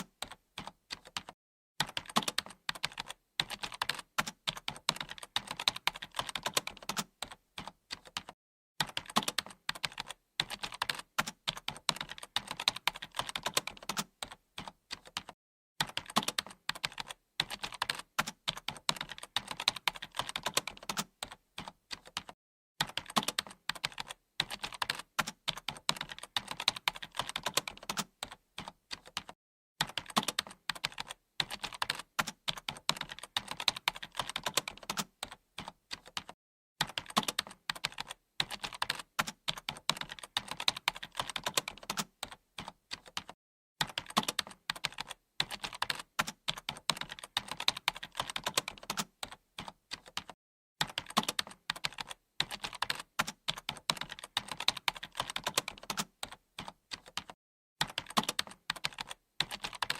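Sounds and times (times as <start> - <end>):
typing on computer keyboard: 0.0 - 59.9.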